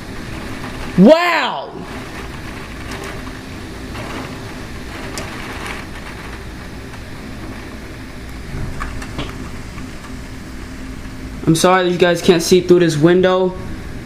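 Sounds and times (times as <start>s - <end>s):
rain: 0.0s - 13.1s.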